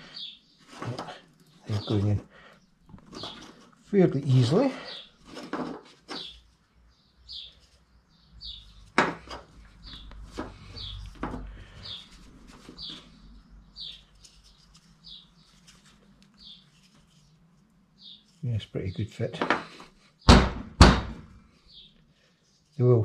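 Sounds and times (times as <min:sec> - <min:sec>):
bird chirping: 0:00.0 - 0:05.4, 0:06.0 - 0:20.5, 0:21.4 - 0:23.0.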